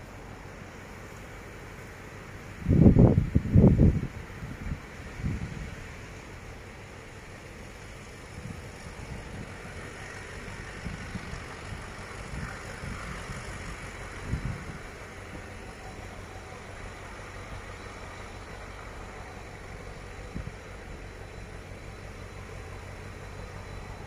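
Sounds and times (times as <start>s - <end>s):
diesel locomotive engine: 0.0s - 24.0s.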